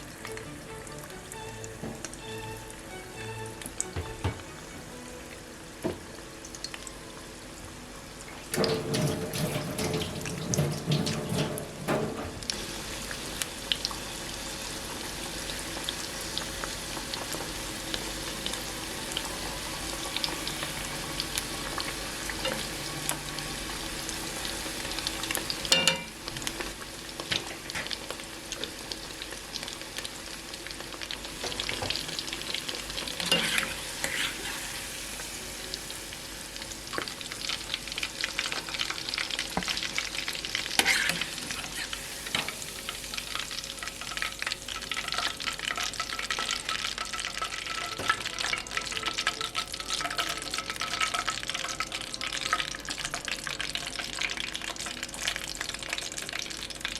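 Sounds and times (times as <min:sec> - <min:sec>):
shrimp frying in hot oil: 0:00.0 - 0:56.9.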